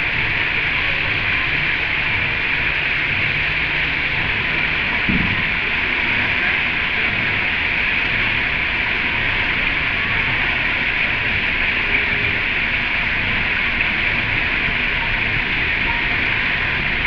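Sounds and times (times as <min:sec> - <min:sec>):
rushing water hiss: 0:00.0 - 0:17.0.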